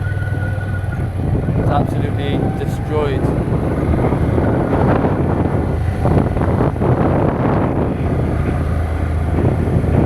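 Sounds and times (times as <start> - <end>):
vehicle engine rumble: 0.0 - 10.0
wind buffeting microphone: 0.0 - 10.0.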